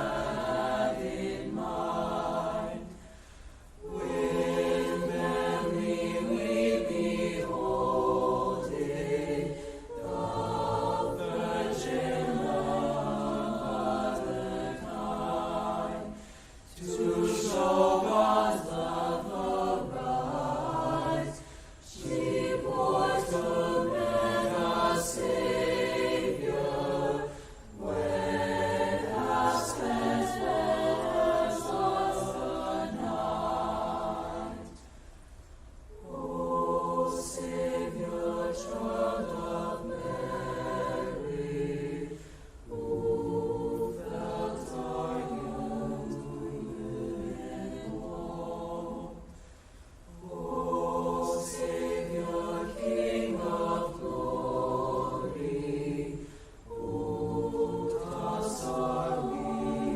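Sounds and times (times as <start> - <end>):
choir singing: 0.0 - 3.2, 3.8 - 34.9, 35.9 - 49.5, 50.1 - 59.9.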